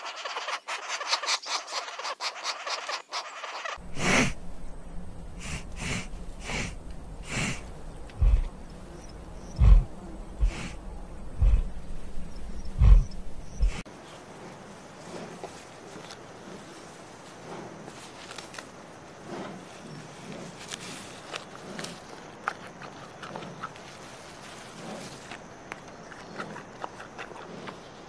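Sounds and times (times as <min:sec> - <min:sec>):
wild boar snuffling and grunting: 0:00.0 - 0:28.0.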